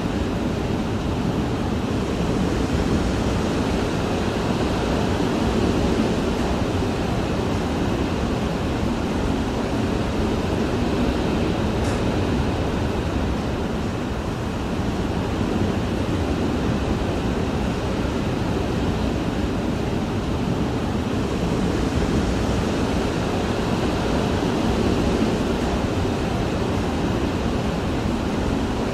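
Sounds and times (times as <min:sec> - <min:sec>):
muffled hurricane wind: 0:00.0 - 0:28.9.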